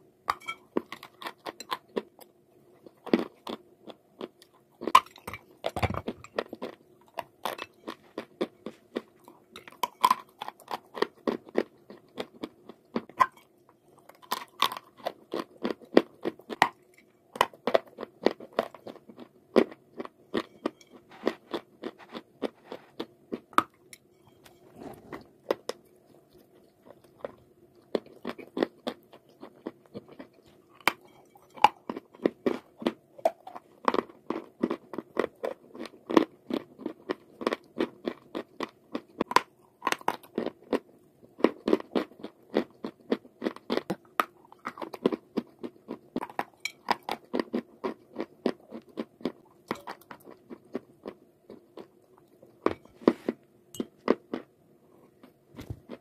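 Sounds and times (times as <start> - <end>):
crunching and chewing: 0.3 - 56.0.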